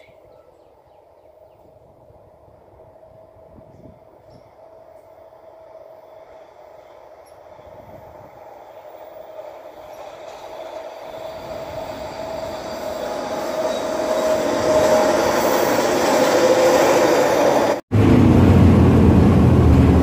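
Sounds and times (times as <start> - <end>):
train approaching with whine: 0.0 - 20.0.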